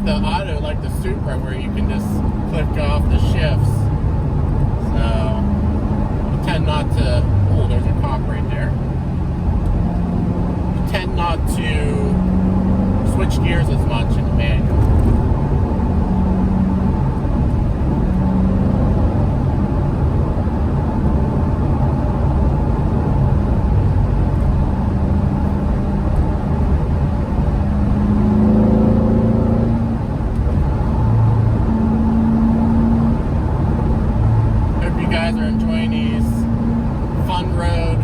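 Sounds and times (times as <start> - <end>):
car engine running: 0.0 - 38.0
road noise: 0.0 - 38.0.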